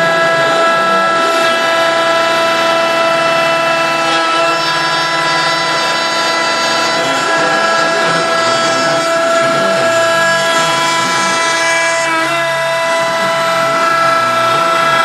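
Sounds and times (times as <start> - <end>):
router spindle whine: 0.0 - 15.0
stepper motor tones: 0.0 - 15.0.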